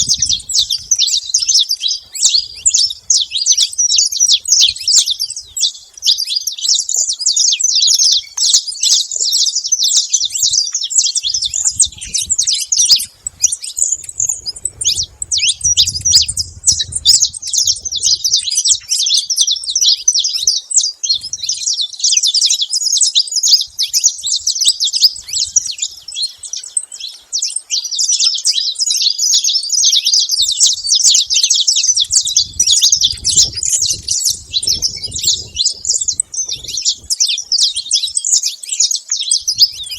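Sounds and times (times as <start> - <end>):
finch chirping and singing: 0.0 - 39.9.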